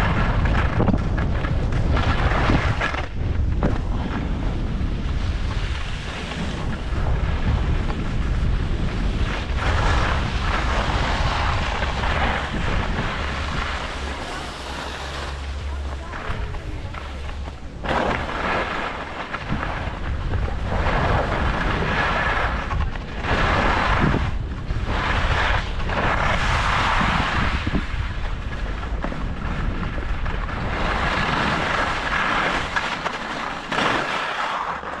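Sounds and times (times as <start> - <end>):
skis scraping over snow: 0.0 - 35.0
wind rumbling on microphone: 0.0 - 35.0.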